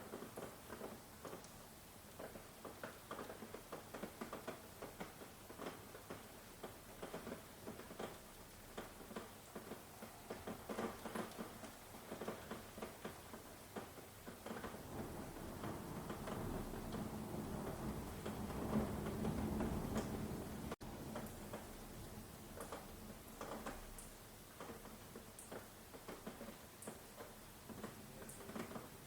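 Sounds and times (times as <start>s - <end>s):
rain drops pattering: 0.0s - 29.0s.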